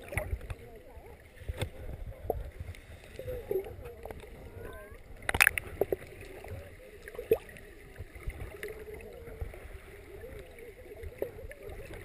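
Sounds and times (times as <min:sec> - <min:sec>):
faint muffled voices: 0:00.0 - 0:12.0
muffled underwater water noise: 0:00.0 - 0:12.0.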